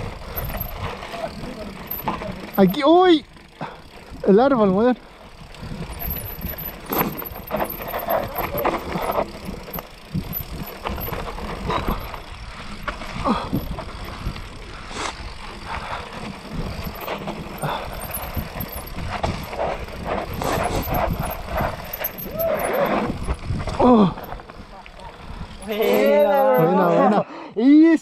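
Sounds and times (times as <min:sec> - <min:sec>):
bike knocking and rattling: 0:00.0 - 0:27.1
bike tyres over dirt and rocks: 0:00.0 - 0:27.1.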